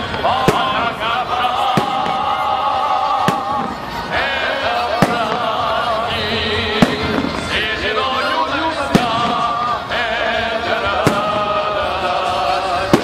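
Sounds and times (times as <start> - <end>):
fireworks bangs: 0.0 - 13.0
music: 0.0 - 13.0.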